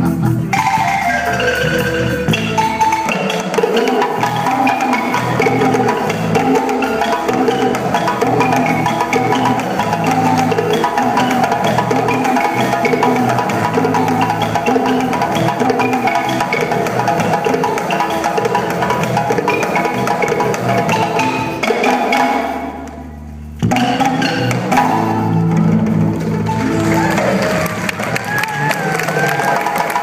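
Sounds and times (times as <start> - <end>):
wooden xylophone music: 0.0 - 30.0.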